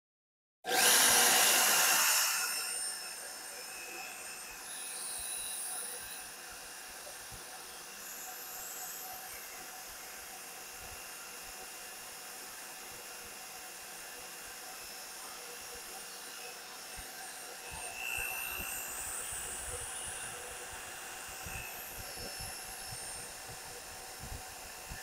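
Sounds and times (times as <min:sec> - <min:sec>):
motor whir with high whine: 0:00.7 - 0:25.0.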